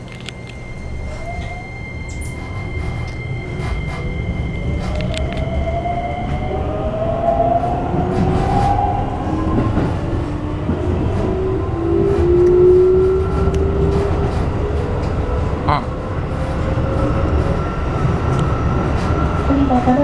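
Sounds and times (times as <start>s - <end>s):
steady high tone: 0.0s - 20.0s
train motors whining: 0.0s - 20.0s
wheels rumbling and clicking on rails: 0.0s - 20.0s.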